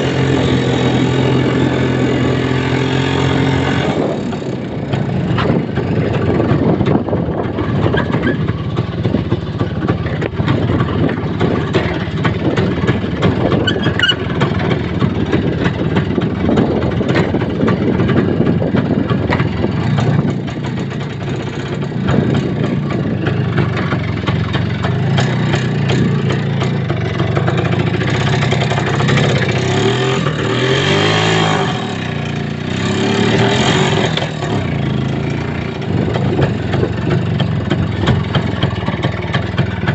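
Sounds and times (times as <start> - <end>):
vehicle engine running: 0.0 - 39.9
vehicle rattling on rough track: 0.0 - 39.9.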